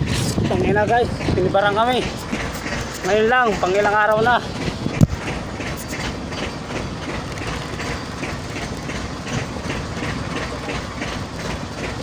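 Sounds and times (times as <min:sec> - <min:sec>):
boat engine running: 0:00.0 - 0:12.0
regular mechanical clacking: 0:00.0 - 0:12.0.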